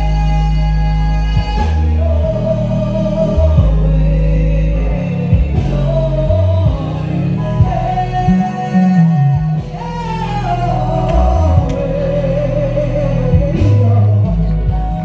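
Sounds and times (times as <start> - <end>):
woman singing gospel song: 0.0 - 14.8
instrumental accompaniment: 0.0 - 15.0.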